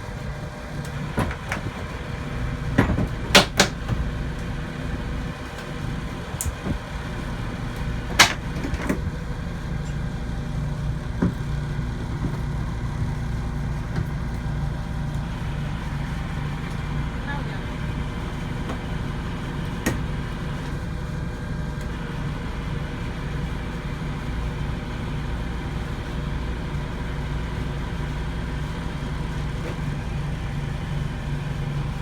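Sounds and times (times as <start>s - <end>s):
truck engine humming: 0.0s - 32.0s.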